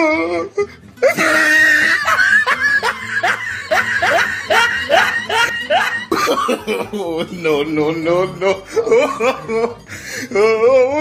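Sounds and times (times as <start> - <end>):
person laughing: 1.0 - 10.9.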